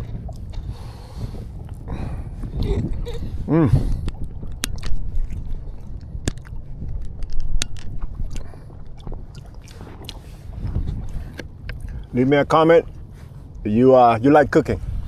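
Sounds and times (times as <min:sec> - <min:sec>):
person chewing food: 0:00.0 - 0:12.1
steady low rumble: 0:00.0 - 0:15.0.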